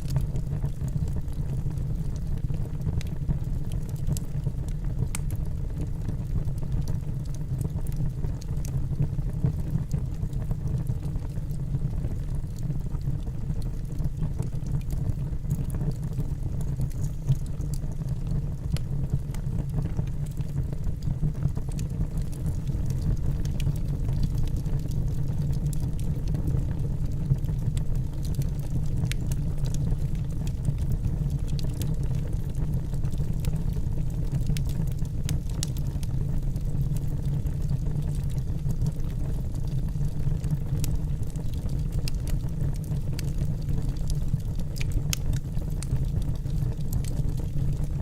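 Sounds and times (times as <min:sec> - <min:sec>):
wood fire burning: 0:00.0 - 0:48.0.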